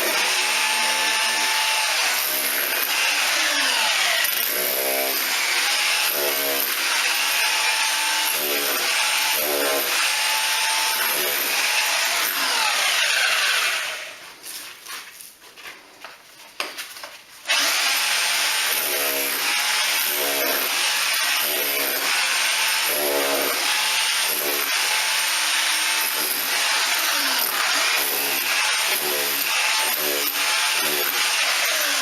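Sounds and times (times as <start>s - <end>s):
power tool rasping: 0.0s - 14.2s, 17.5s - 32.0s.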